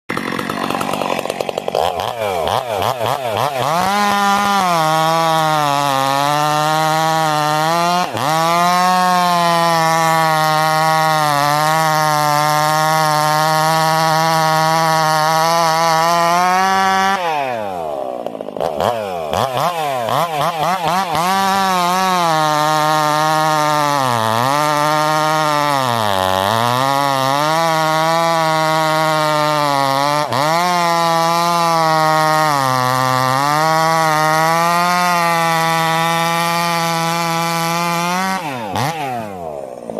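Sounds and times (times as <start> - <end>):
chainsaw running at high revs: 0.1 - 39.9.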